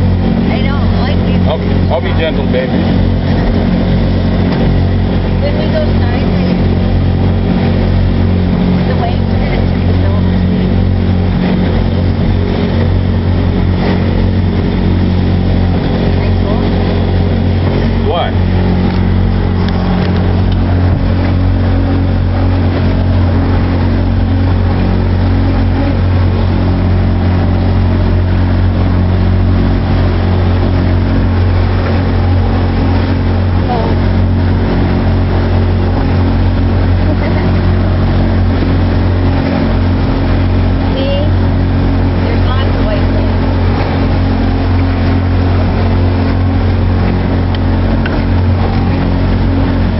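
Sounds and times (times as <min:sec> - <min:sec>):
motorboat engine droning: 0:00.0 - 0:49.9
water rushing: 0:00.0 - 0:49.9
wind noise: 0:00.0 - 0:49.9.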